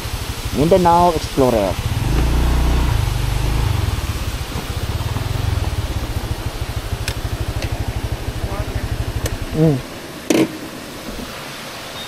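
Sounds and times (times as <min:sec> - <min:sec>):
scooter engine idling: 0:00.0 - 0:09.7.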